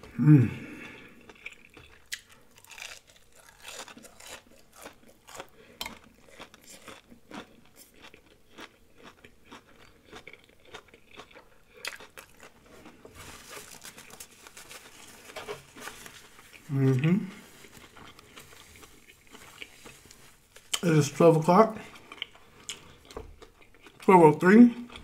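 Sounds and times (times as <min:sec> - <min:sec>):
crunchy chewing: 0:00.6 - 0:21.0, 0:21.8 - 0:24.1.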